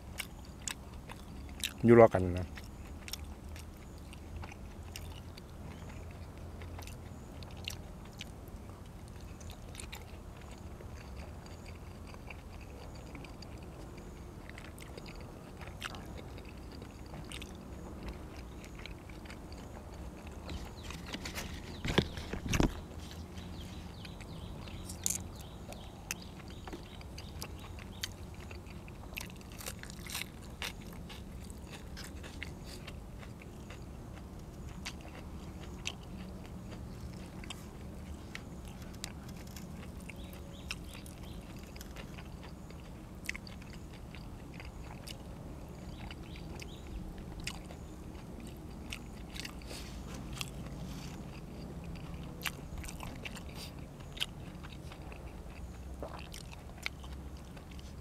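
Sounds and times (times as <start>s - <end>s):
person chewing and crunching: 0.0s - 58.0s
steady low hum: 0.0s - 58.0s.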